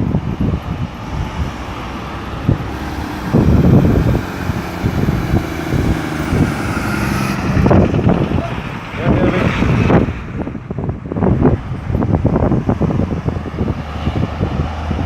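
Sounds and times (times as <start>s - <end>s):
cars and trucks passing: 0.0s - 15.0s
wind buffeting microphone: 0.0s - 15.0s.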